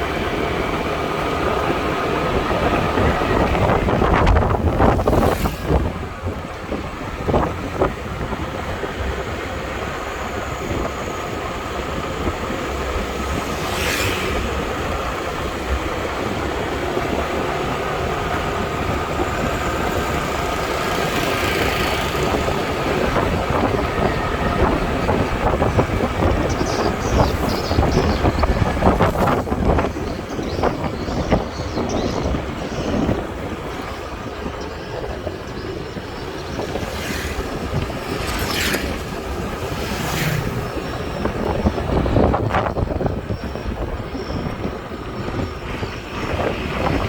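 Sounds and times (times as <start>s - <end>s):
vehicle engine rumble: 0.0s - 47.0s.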